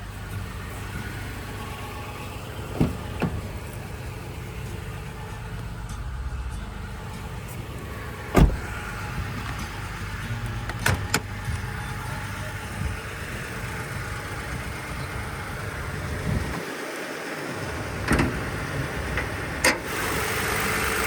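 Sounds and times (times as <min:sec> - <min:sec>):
pickup engine idling: 0:00.0 - 0:21.0.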